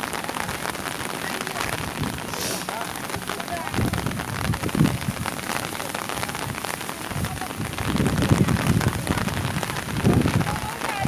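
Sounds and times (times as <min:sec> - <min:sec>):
rain drops tapping: 0:00.0 - 0:11.0.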